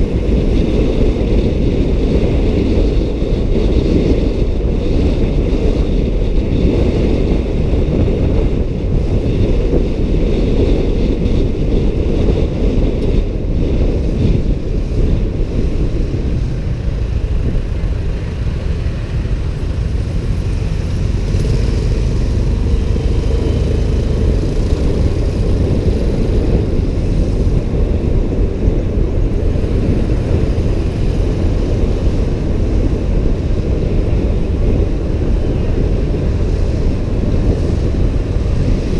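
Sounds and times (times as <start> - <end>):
road and traffic rumble: 0.0 - 38.9
wind buffeting microphone: 0.0 - 38.9.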